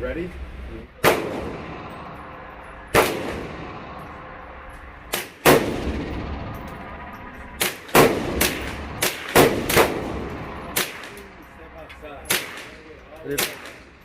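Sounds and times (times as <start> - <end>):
rifle shots with echo: 1.0 - 11.6, 12.2 - 14.0.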